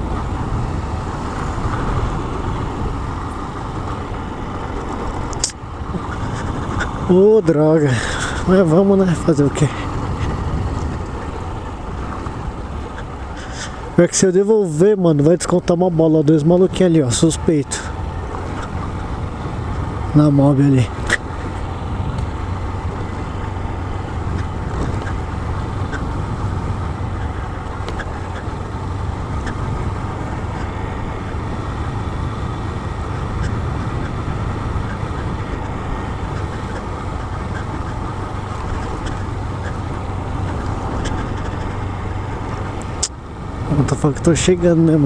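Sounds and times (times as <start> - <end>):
motorcycle engine running: 0.0 - 45.0
wind rushing over microphone: 0.0 - 45.0.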